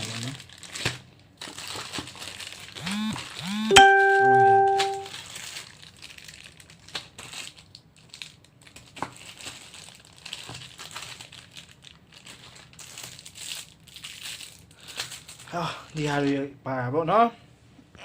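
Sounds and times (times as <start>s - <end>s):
plastic packaging crinkling: 0.0s - 16.4s.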